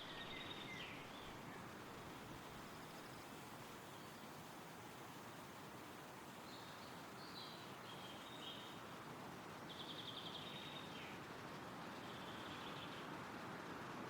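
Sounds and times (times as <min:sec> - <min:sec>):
songbird singing: 0:00.0 - 0:13.1
wind rustling through trees: 0:00.0 - 0:14.0.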